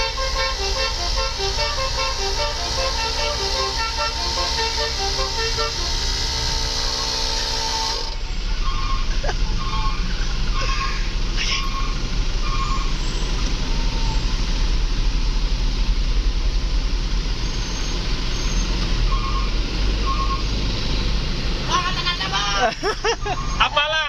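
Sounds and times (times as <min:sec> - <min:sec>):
vehicle road noise: 0:00.0 - 0:24.0.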